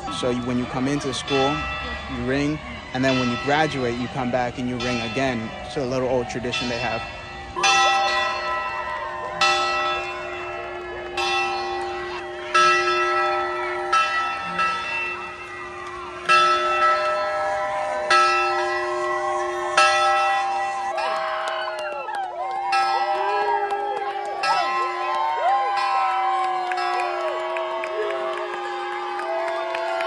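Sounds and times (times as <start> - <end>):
large bell ringing: 0.0 - 21.7, 22.7 - 29.8.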